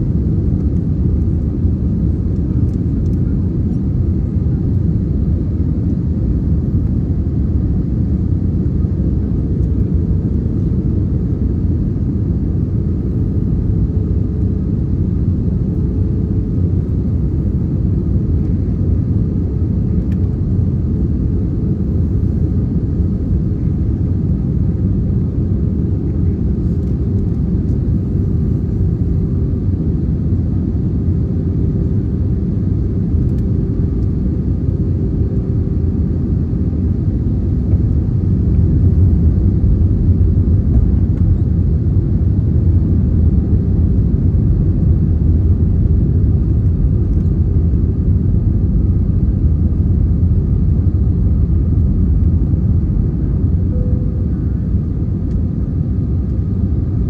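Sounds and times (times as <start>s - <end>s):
airflow over fuselage: 0.0s - 57.0s
airplane cabin engine rumble: 0.0s - 57.0s.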